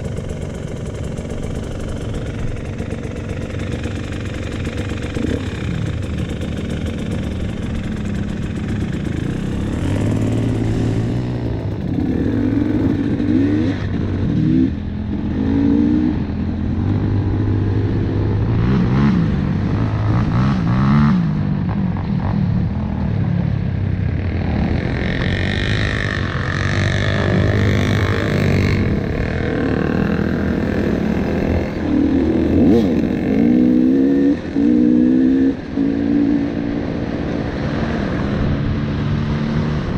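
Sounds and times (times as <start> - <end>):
dirt bike engine revving: 0.0 - 21.4, 24.4 - 39.9.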